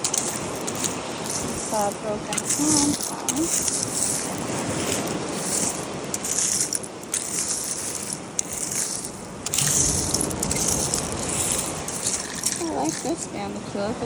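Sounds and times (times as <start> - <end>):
seashells clinking and crunching: 0.0 - 13.4.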